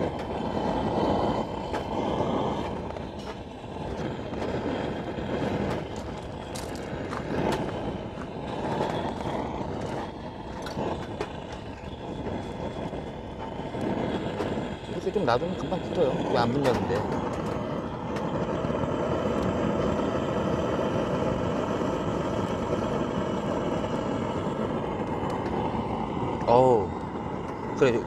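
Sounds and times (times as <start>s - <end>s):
gas torch flame rushing: 0.0s - 28.0s.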